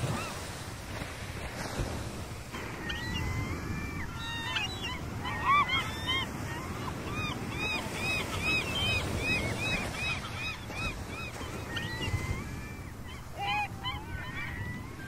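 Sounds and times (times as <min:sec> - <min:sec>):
gulls calling: 0:02.4 - 0:15.0.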